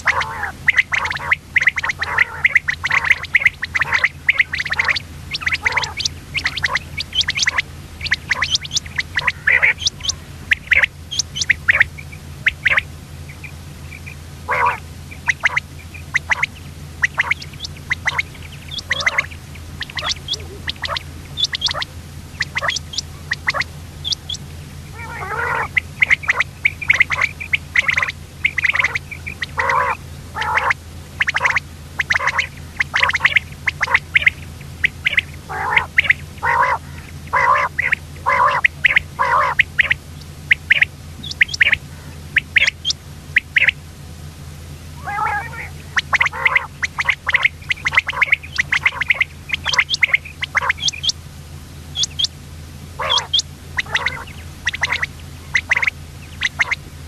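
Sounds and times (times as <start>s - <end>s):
quail calling: 0.0s - 43.8s, 44.5s - 51.2s, 51.9s - 56.9s.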